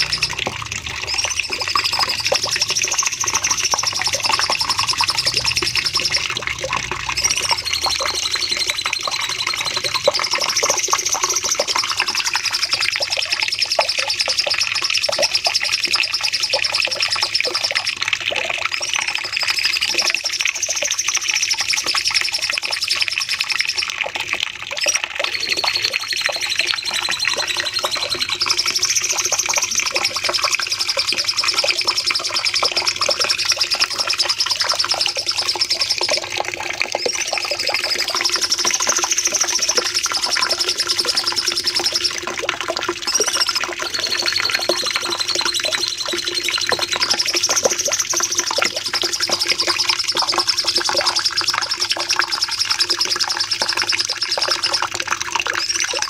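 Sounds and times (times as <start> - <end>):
songbird singing trills: 0.0 - 17.7, 24.8 - 42.4, 43.0 - 54.8.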